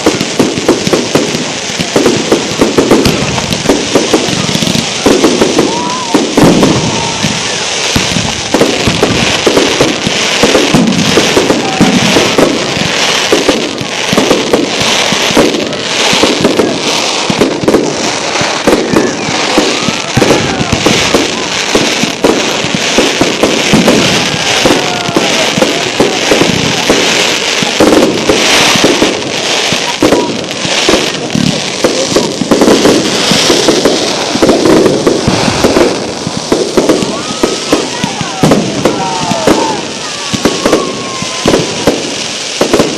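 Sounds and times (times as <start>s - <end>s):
faint firework whistles: 0.0s - 42.9s
fireworks bangs and crackling: 0.0s - 42.9s.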